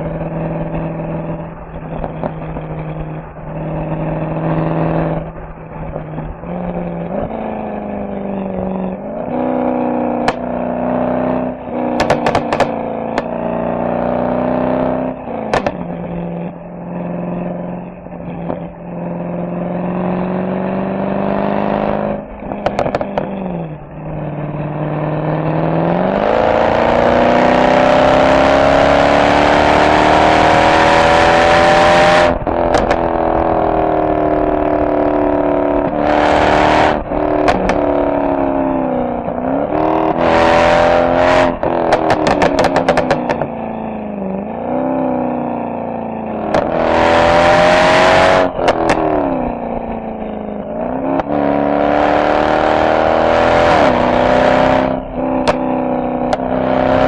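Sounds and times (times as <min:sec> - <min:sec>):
exhaust crackles: 0:00.0 - 0:20.9, 0:21.5 - 0:51.4, 0:52.4 - 0:56.8
car exhaust accelerating: 0:00.0 - 0:57.0.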